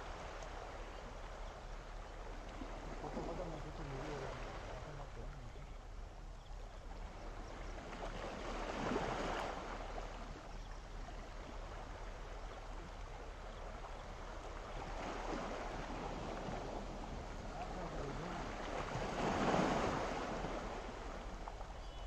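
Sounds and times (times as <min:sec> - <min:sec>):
sea water washing against shore: 0:00.0 - 0:06.2, 0:07.0 - 0:22.0.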